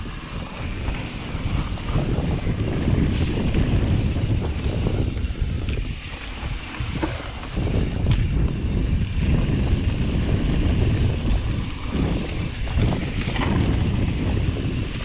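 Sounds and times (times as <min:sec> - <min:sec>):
wind buffeting microphone: 0:00.0 - 0:15.0
bike rattle clicks: 0:00.3 - 0:15.0.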